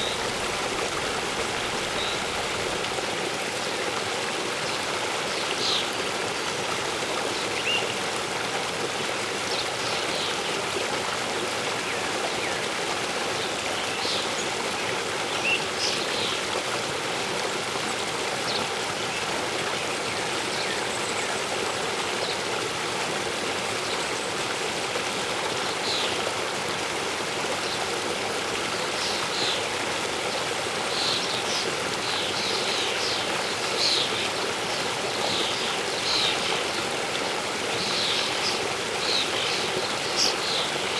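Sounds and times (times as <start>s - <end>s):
waterfall and stream running: 0.0s - 40.9s.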